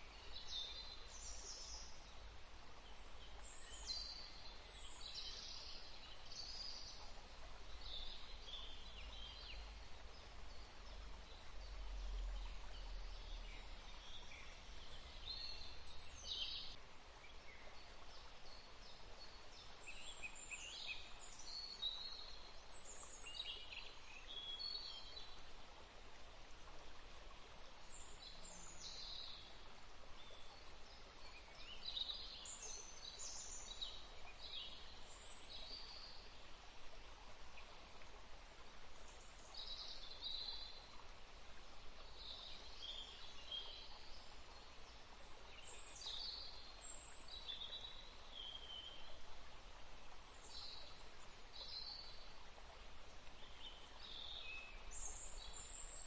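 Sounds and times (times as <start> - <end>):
faint outdoor hiss: 0.0 - 56.0.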